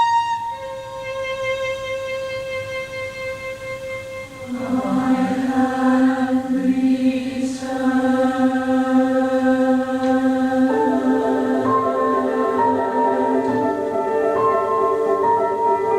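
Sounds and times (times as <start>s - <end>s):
choir holding long chords: 0.0s - 15.9s.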